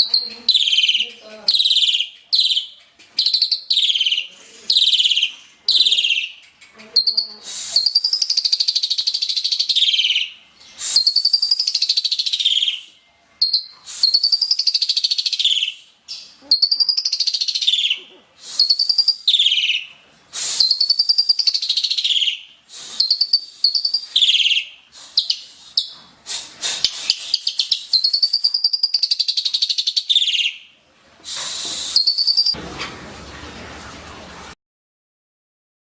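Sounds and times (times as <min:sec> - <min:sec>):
starling singing: 0:00.0 - 0:19.9, 0:20.6 - 0:26.0, 0:26.8 - 0:30.7, 0:31.9 - 0:32.6.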